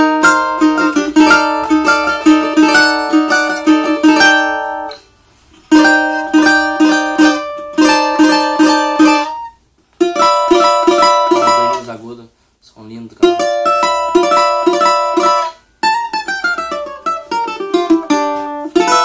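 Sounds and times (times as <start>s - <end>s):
cavaquinho strummed chords: 0.0s - 12.0s, 13.0s - 19.0s.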